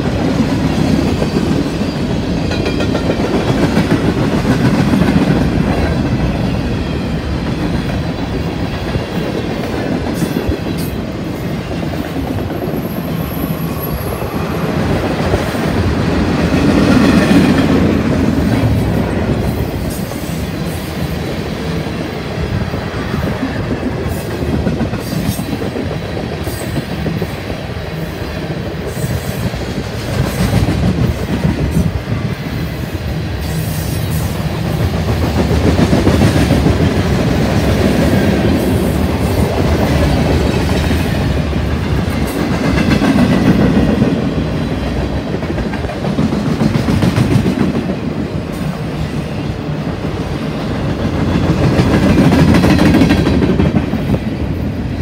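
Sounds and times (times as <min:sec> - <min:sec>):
freight train wheels rumbling on rail: 0:00.0 - 0:55.0.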